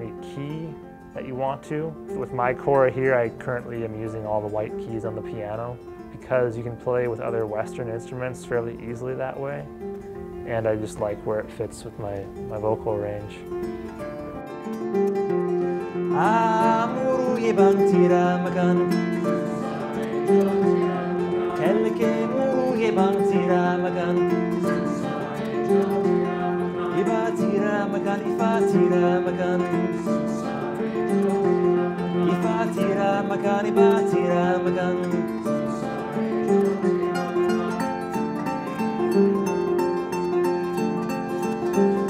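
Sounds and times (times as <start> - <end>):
man singing: 0.0 - 9.7, 10.4 - 13.6, 16.0 - 38.2
harp plucked notes: 0.0 - 42.0.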